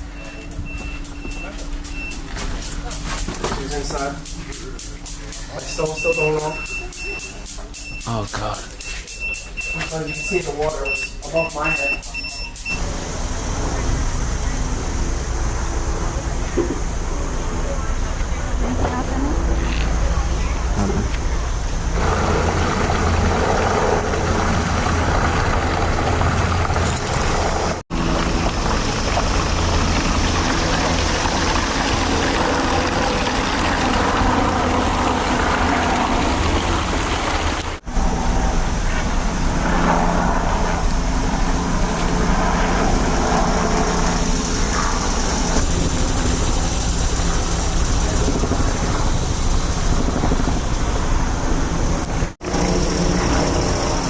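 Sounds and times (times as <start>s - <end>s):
engine rumbling: 0.0s - 54.0s
street noise: 0.0s - 54.0s.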